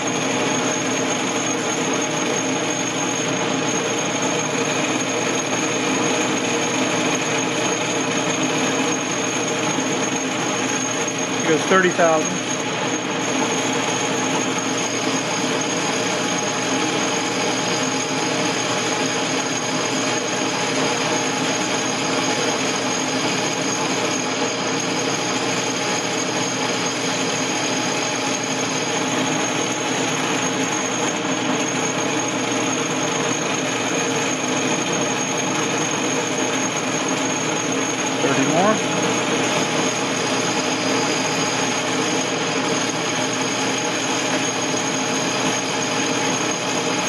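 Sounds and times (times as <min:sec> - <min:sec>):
metal lathe running with whine: 0:00.0 - 0:47.0.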